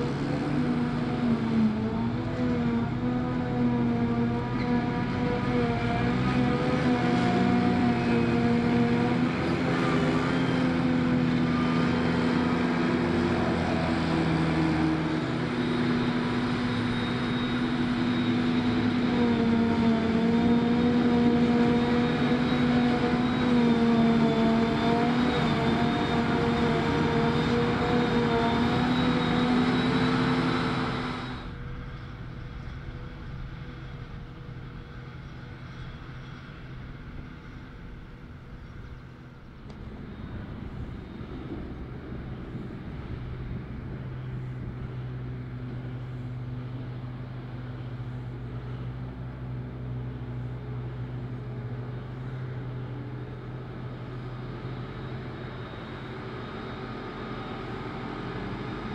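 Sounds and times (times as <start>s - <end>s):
distant tractor engine: 0.0s - 58.9s
forage harvester engine drone: 0.0s - 58.9s.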